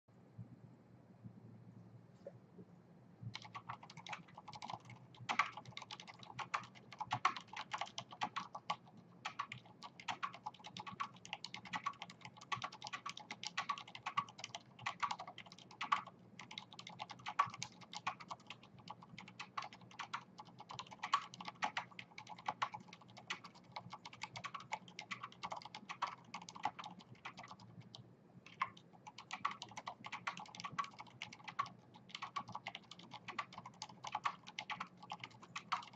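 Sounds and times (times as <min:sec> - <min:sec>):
mechanical keyboard typing: 0:03.3 - 0:35.9.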